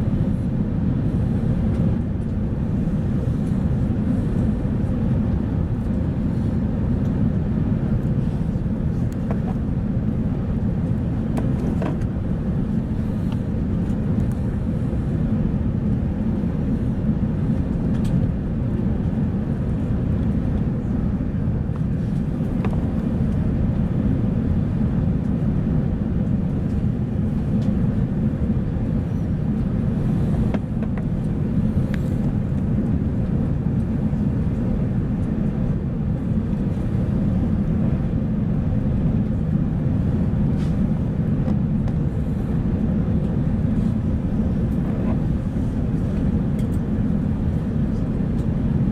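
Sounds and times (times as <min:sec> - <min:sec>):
aircraft cabin rumble: 0:00.0 - 0:48.9.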